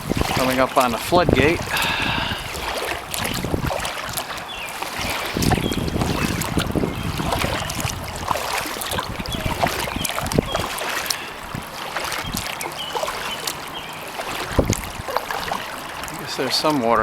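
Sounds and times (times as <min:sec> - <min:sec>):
wind rumble on microphone: 0:00.0 - 0:12.6, 0:14.4 - 0:16.2
paddle strokes splashing: 0:00.0 - 0:17.0
water trickling over floodgate: 0:00.0 - 0:17.0.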